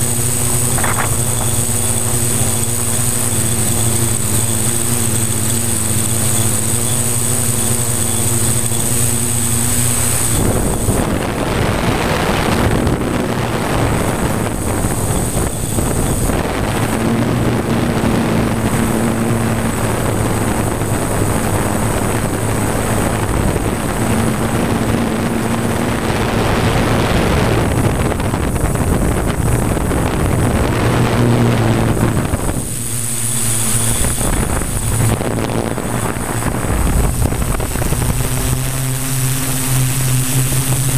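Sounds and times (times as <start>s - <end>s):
drone motors humming: 0.0s - 40.9s
wind buffeting microphone: 0.0s - 40.9s.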